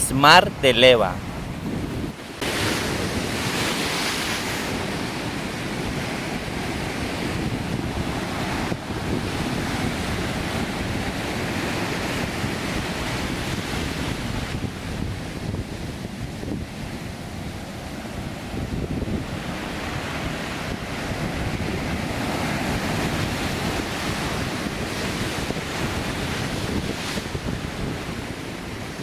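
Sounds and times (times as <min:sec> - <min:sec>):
wind buffeting microphone: 0:01.0 - 0:29.0.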